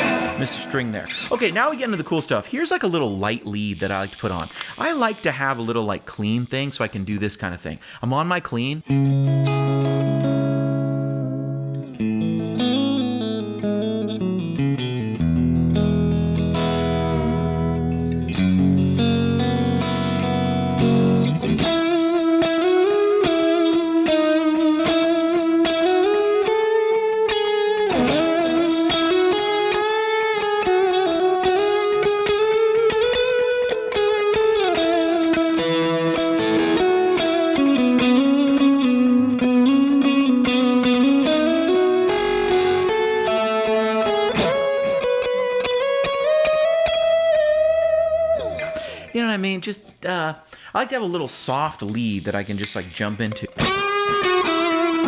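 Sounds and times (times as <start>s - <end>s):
electric guitar chords and lead: 0.0s - 2.5s, 3.3s - 5.3s, 8.8s - 49.2s, 53.4s - 55.0s.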